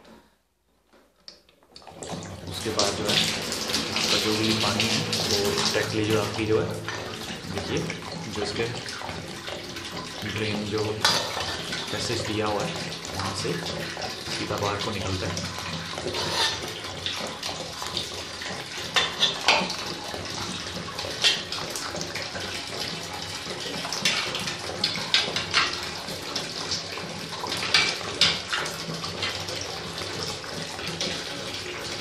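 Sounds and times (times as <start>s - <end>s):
water pouring and splashing: 1.7s - 32.0s.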